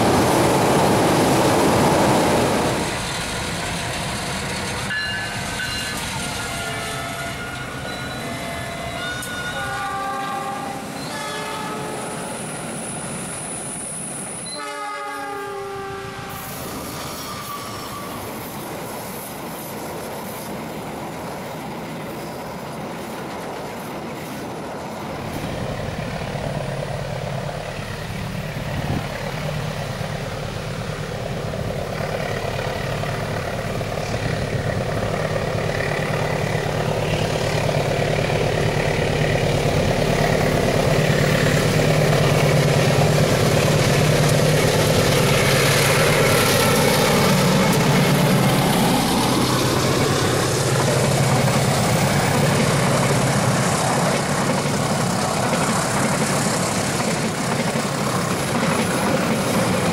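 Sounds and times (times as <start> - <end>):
locomotive engine drone: 0.0 - 14.6, 24.0 - 59.9
train coaches rolling on rails: 0.0 - 59.9.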